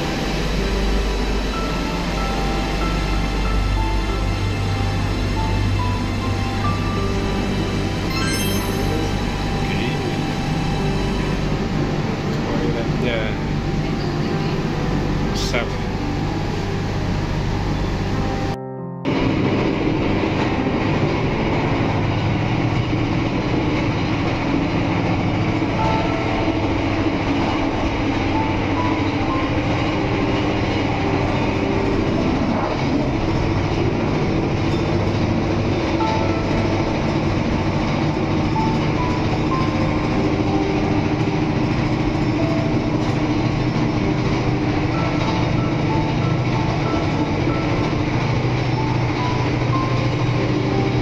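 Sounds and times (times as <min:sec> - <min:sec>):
train running rumble: 0:00.0 - 0:51.0.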